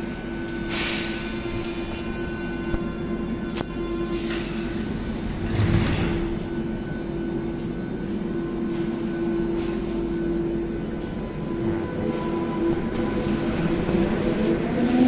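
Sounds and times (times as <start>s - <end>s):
train electrical hum: 0.0s - 15.0s.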